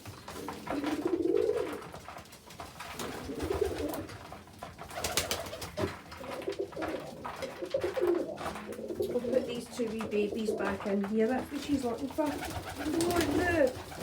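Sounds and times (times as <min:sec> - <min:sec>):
pigeons cooing: 0:00.0 - 0:14.0
rustling: 0:00.0 - 0:14.0.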